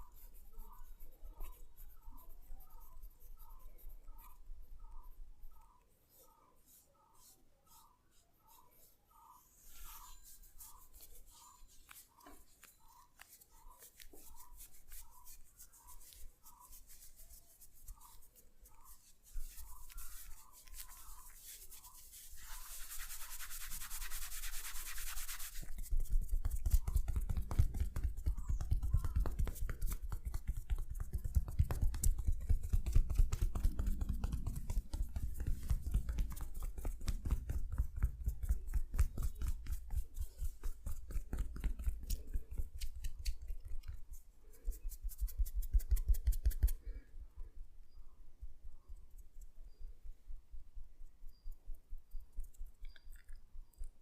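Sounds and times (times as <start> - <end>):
scratchy rubbing on skin: 0.0 - 46.8.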